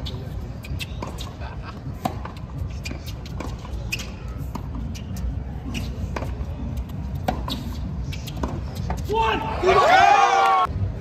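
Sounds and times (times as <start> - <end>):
faint chatter: 0.0 - 8.8.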